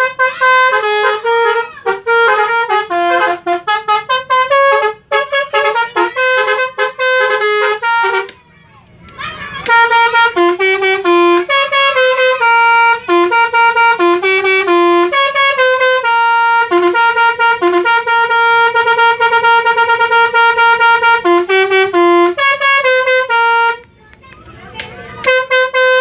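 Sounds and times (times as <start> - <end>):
musical bus horn melody: 0.0 - 8.4, 9.6 - 23.9, 25.1 - 26.0.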